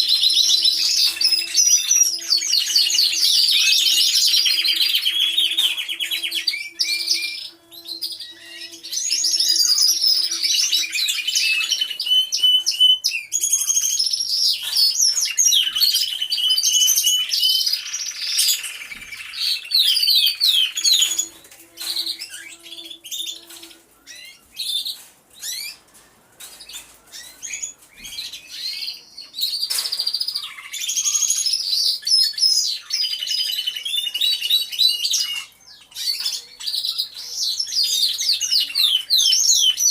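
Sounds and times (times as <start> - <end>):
canaries singing with trills: 0.0 - 39.9.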